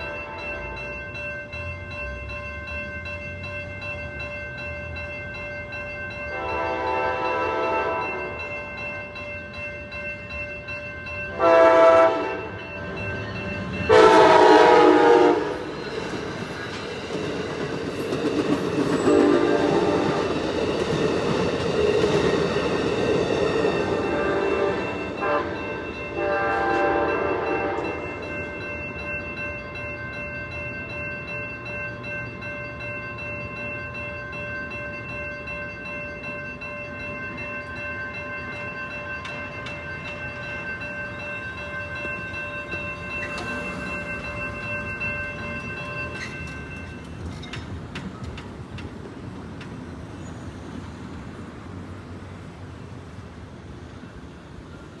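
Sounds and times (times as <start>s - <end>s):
railroad crossing bells ringing: 0.0s - 55.0s.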